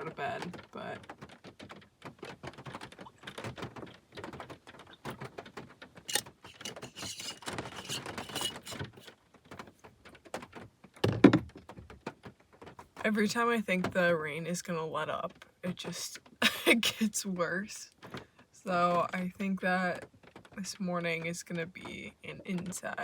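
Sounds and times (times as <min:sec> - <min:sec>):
rain pattering: 0:00.0 - 0:08.3, 0:09.0 - 0:23.0.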